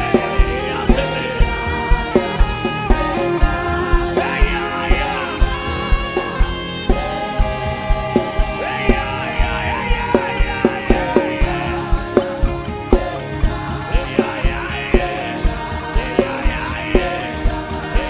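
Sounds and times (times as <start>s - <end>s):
drum beat: 0.0s - 18.0s
keyboard chords: 0.0s - 18.0s
person singing: 0.0s - 18.0s.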